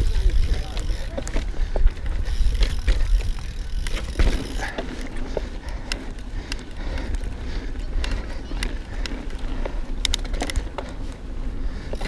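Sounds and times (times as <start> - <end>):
bike tyres rumbling on gravel: 0.0 - 12.0.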